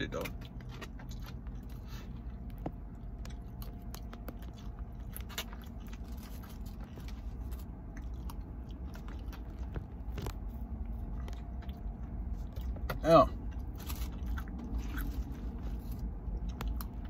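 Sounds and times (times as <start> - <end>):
chewing and biting food: 0.0 - 17.0
steady low hum: 0.0 - 17.0.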